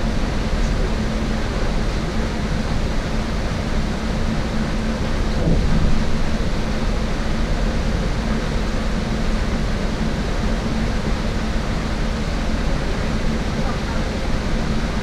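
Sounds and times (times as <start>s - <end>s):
bus rumble and road noise: 0.0s - 15.0s.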